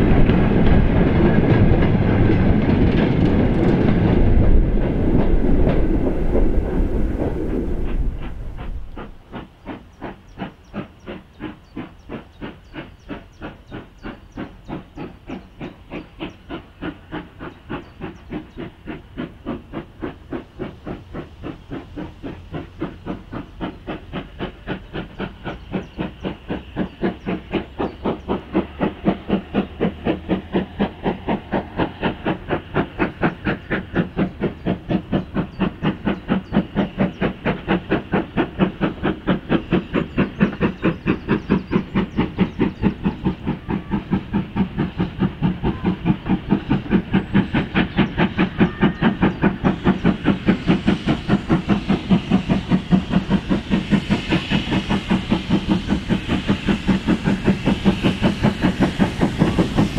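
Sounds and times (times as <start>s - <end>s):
steam hiss: 0.0s - 59.9s
steam locomotive exhaust chuffing: 0.0s - 59.9s.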